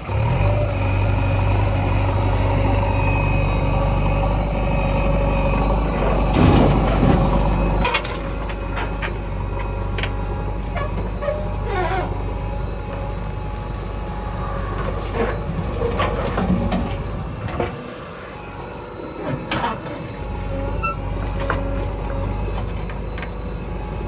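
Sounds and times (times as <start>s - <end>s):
diesel engine running: 0.0s - 24.0s
squeals from loader arm: 0.4s - 24.0s.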